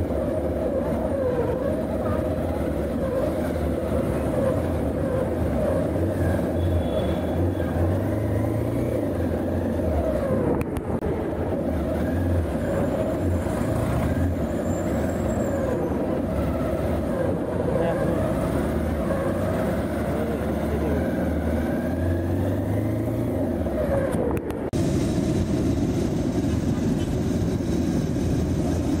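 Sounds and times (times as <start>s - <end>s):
motorcycle and car engines passing: 0.0s - 29.0s.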